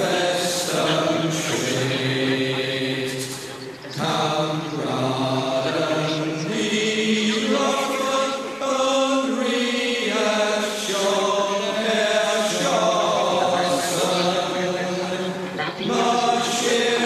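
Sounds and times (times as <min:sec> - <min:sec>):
voices chanting slowly: 0:00.0 - 0:17.0.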